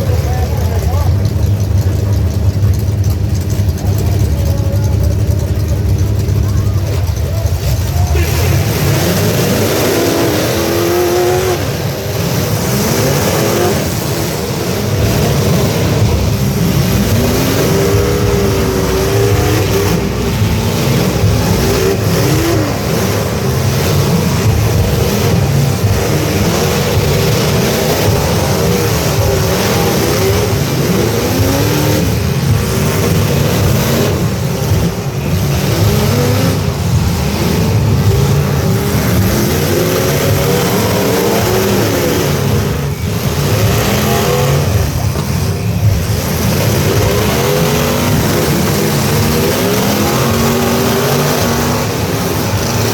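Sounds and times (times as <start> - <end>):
low engine rumble: 0.0 - 52.9
truck engines revving: 0.0 - 52.9.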